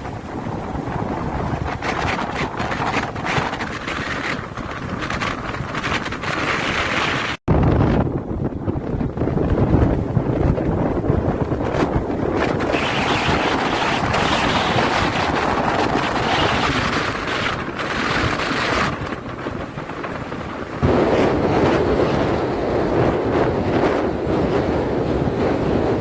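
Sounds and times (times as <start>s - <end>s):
sea waves breaking on a beach: 0.0s - 7.4s, 8.8s - 26.0s
wind buffeting microphone: 0.0s - 26.0s.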